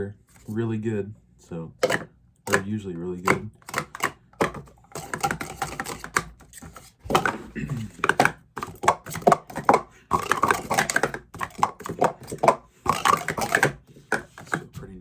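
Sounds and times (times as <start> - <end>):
plastic cups clattering: 1.8 - 14.9.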